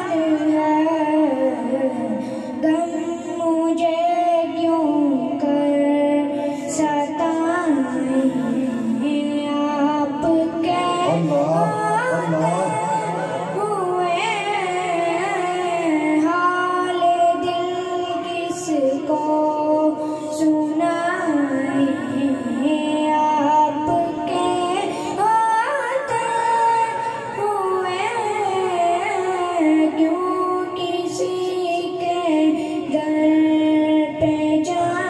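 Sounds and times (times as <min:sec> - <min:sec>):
child singing into microphone: 0:00.0 - 0:35.0.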